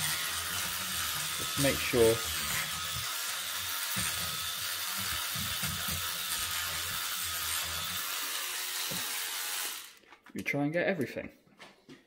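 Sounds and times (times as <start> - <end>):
sonic scrubber brush buzzing: 0.0 - 10.0.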